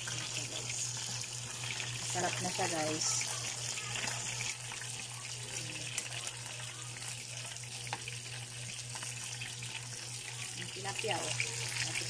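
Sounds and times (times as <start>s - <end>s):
fish frying in oil: 0.0s - 12.0s.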